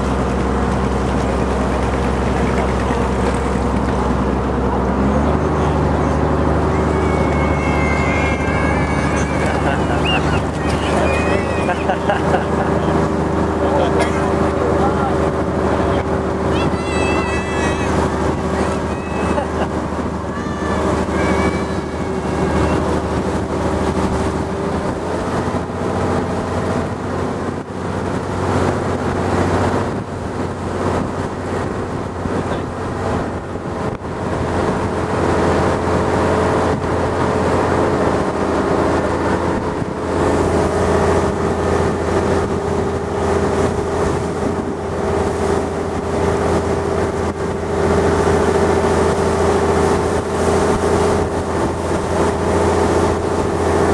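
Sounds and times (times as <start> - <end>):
boat engine running: 0.0 - 53.9
water rushing past: 0.0 - 53.9.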